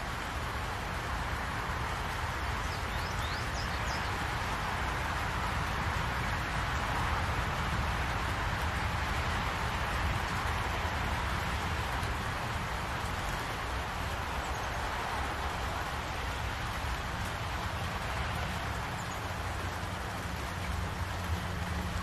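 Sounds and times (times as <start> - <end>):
rain falling on trees: 0.0 - 22.0.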